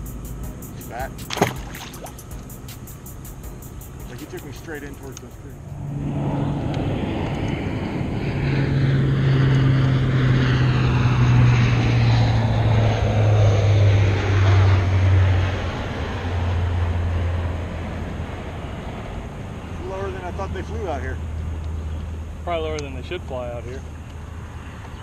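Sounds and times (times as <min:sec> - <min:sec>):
propeller airplane passing overhead: 0:00.0 - 0:25.0.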